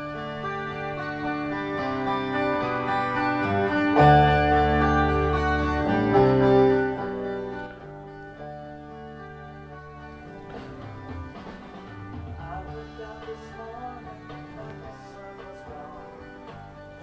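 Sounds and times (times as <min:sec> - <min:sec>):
plucked guitar chords: 0:00.0 - 0:17.0.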